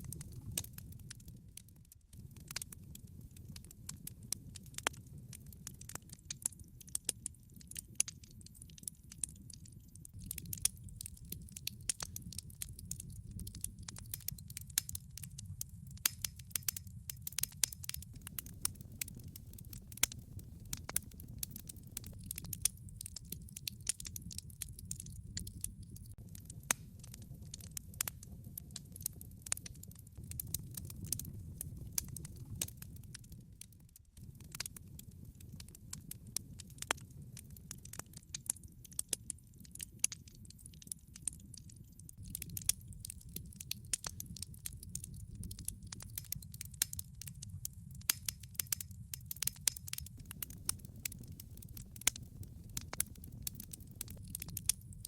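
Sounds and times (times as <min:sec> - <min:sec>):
log fire crackling and popping: 0:00.0 - 0:55.0.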